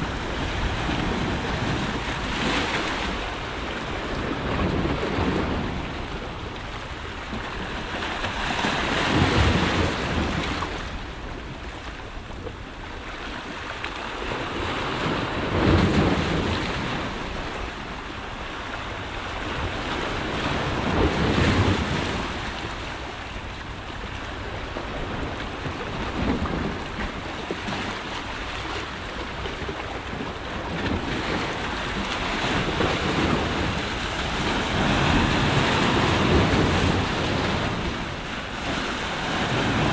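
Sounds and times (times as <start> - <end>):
sea waves breaking on rocks: 0.0 - 39.9.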